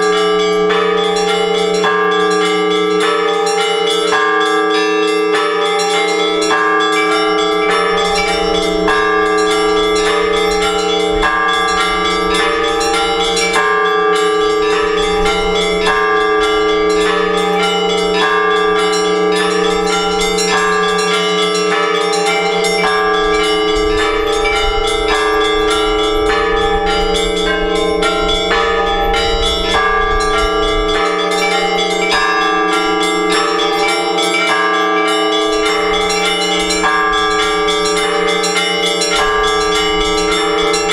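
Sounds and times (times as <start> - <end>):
hum of large bells: 0.0 - 40.9
small bells ringing rapidly: 0.0 - 40.9.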